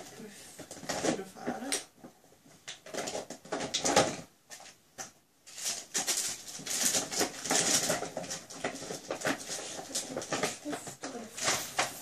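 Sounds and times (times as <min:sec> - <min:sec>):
wrapping rustling and crinkling: 0:00.0 - 0:12.0.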